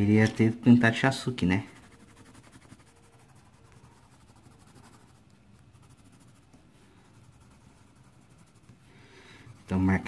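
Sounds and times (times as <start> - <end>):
pencil scratching on paper: 1.6 - 10.0.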